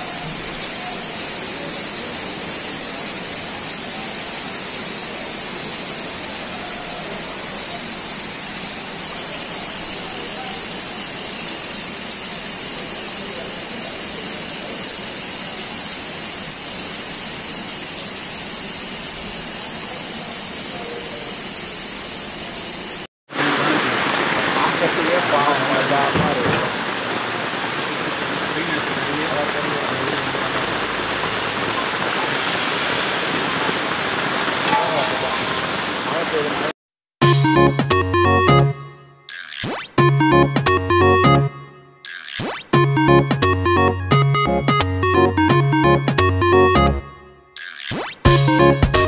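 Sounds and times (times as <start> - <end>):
heavy rain falling: 0.0 - 38.8, 42.1 - 49.0.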